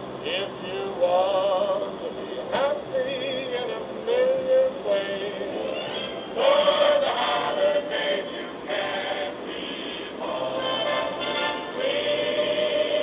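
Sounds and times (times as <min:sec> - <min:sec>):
choir singing through small speaker: 0:00.2 - 0:13.0.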